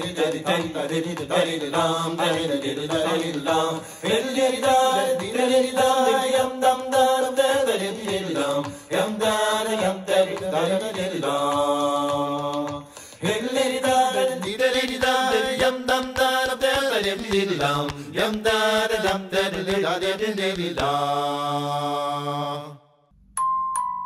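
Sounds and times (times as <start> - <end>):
light steady beat: 0.0 - 21.1
chant-like singing: 0.0 - 22.9.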